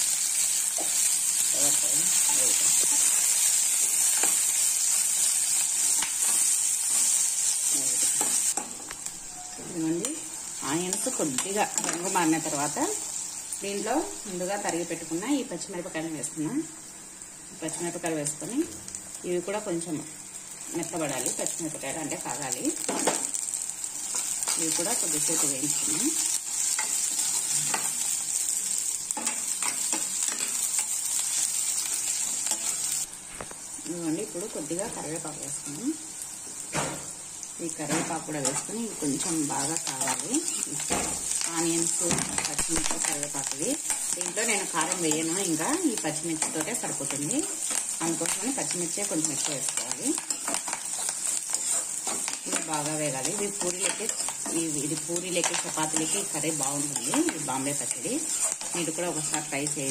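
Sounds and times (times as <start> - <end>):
onions sizzling in oil: 0.0 - 59.9.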